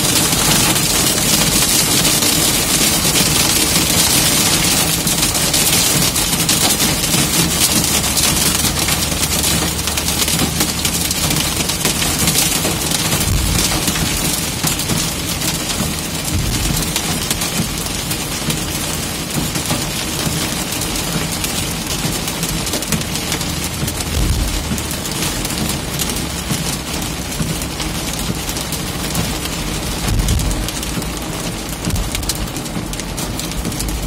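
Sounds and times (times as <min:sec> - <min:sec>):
hail and rain on vehicle roof: 0:00.0 - 0:34.0
van engine running low: 0:00.0 - 0:34.0.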